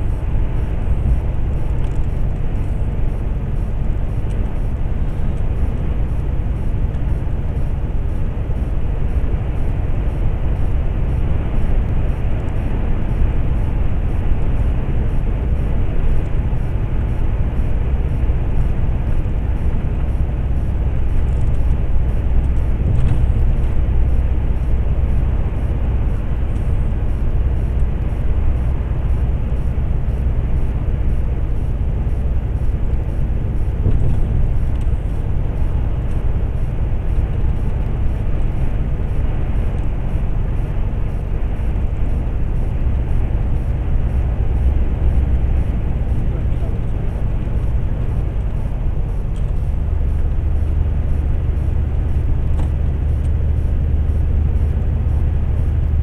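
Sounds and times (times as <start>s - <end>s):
lorry engine drone: 0.0s - 56.0s.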